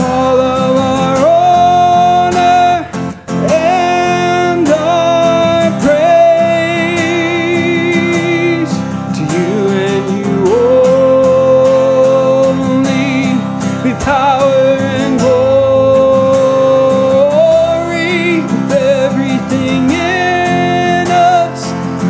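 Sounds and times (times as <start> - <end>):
man singing a hymn: 0.0 - 22.0
strummed acoustic guitar: 0.0 - 22.0.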